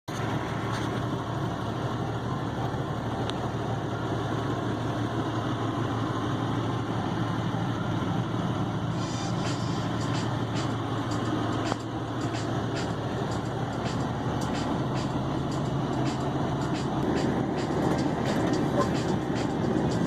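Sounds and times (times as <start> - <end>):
truck engine droning: 0.1 - 20.0.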